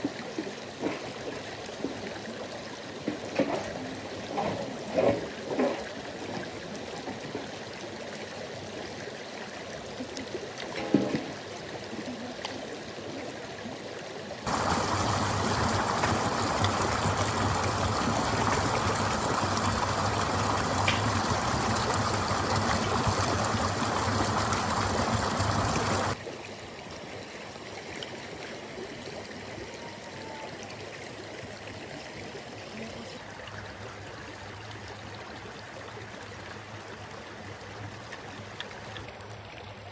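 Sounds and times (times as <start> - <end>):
mountain river running: 0.0 - 39.9.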